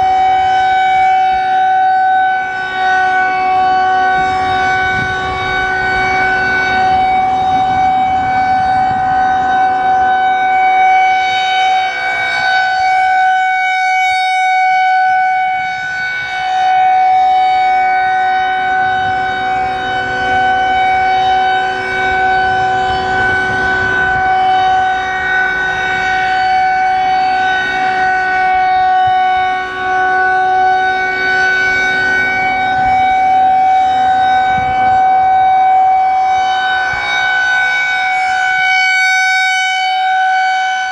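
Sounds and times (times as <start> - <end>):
rotating siren steady tone: 0.0 - 40.9.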